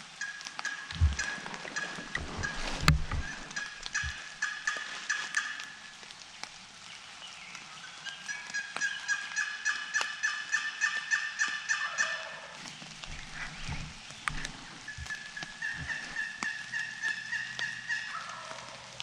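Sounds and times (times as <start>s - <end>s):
turkey yelping: 0.2s - 5.8s, 8.3s - 18.8s.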